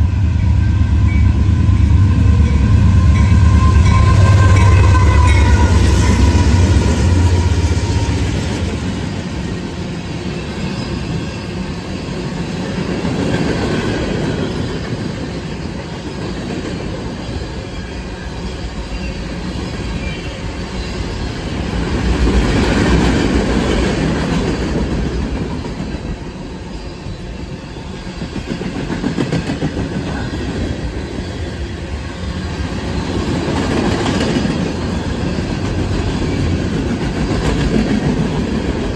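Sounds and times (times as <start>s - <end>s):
train wheels clattering on rails: 0.0s - 26.5s, 27.5s - 38.9s
diesel locomotive engines droning: 0.0s - 38.9s.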